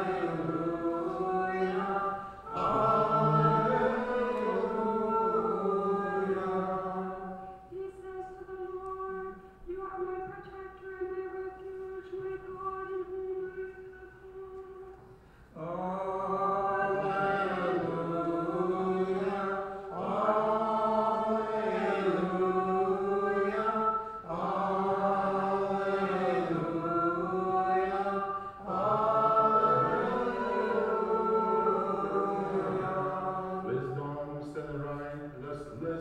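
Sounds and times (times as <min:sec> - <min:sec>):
liturgical chant: 0:00.0 - 0:36.0.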